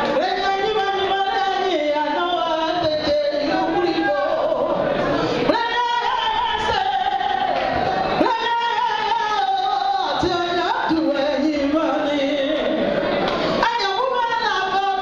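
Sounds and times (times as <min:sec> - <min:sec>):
woman singing into a microphone: 0:00.0 - 0:15.0.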